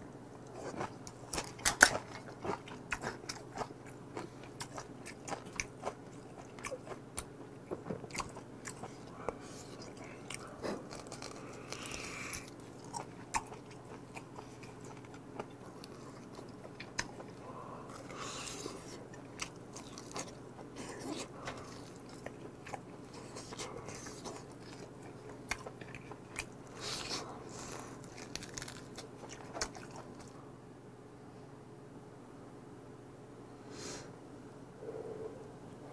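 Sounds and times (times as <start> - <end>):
biting and chewing meat: 0.4 - 30.4.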